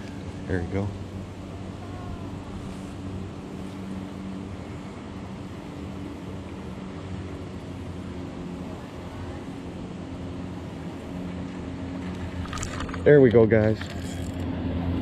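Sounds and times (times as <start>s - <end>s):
boat motor humming: 0.0s - 15.0s
water noise: 0.0s - 15.0s
wind: 0.0s - 15.0s.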